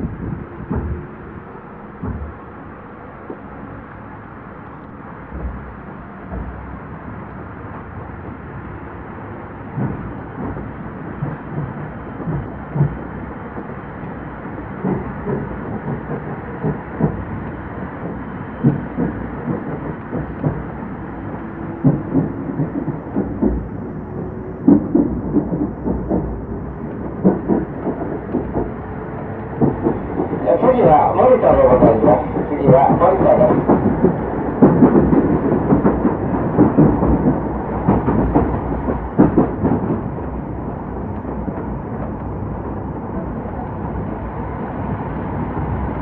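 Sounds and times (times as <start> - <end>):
train coach rumble: 0.0 - 46.0.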